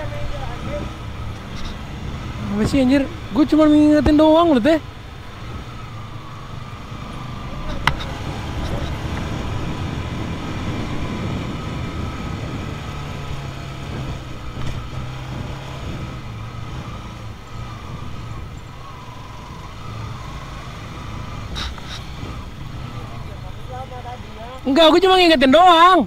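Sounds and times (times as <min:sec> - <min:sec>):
motorcycle engine running: 0:00.0 - 0:25.5
road rumble: 0:00.0 - 0:26.0.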